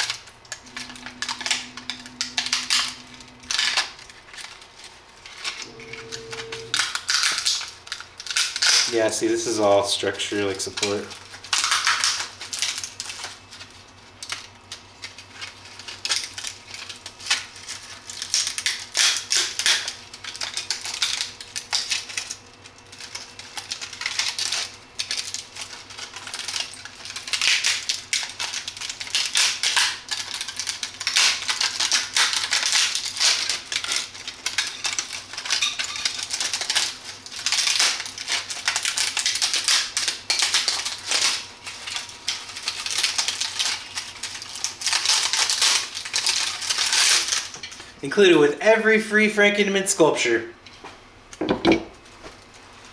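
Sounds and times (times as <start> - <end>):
plastic snapping and crackling: 0.0 - 47.8.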